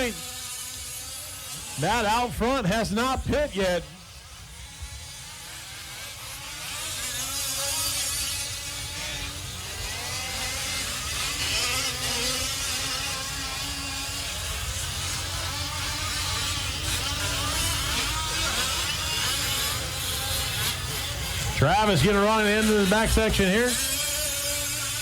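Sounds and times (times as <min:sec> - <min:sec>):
rc truck engines buzzing: 0:00.0 - 0:25.0.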